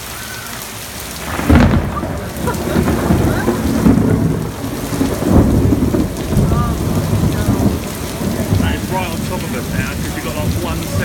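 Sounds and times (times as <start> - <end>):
rain falling: 0.0 - 11.0
close thunder rumbling: 1.0 - 11.0.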